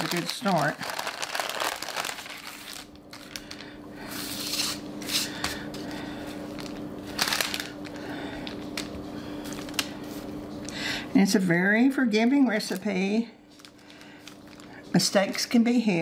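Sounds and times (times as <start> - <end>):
parchment paper rustling and crinkling: 0.0 - 10.8, 12.5 - 15.6
steady low hum: 0.0 - 16.0.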